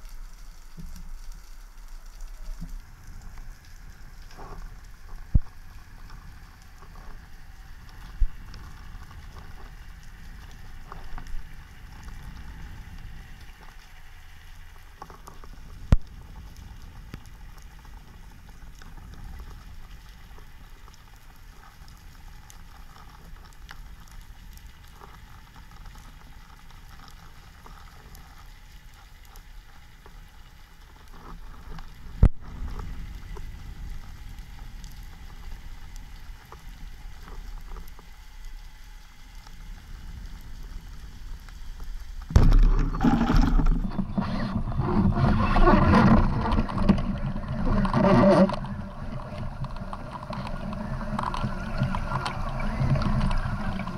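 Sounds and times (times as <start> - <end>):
fine underwater crackling: 0.0 - 53.9
low rumble of moving water: 0.0 - 53.9.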